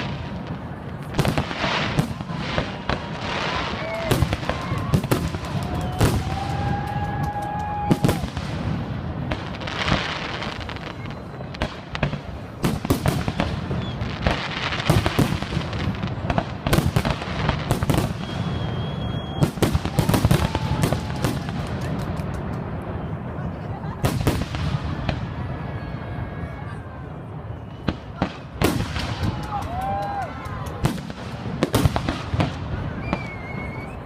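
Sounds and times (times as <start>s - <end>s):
fireworks bangs and crackling: 0.0s - 34.0s
fireworks whistling: 0.0s - 34.0s.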